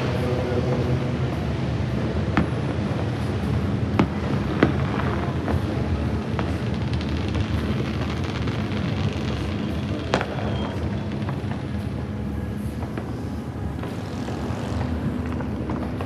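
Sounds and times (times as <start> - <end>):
fireworks popping: 0.0 - 16.0
music with steady bass: 0.0 - 16.0.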